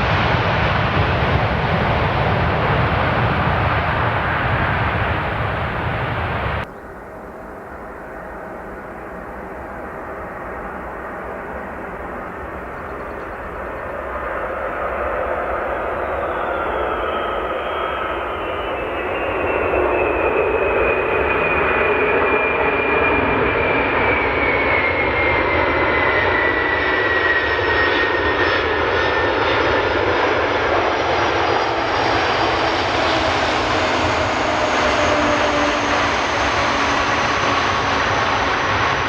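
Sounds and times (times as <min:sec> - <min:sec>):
jet engines roaring with whine: 0:00.0 - 0:39.0.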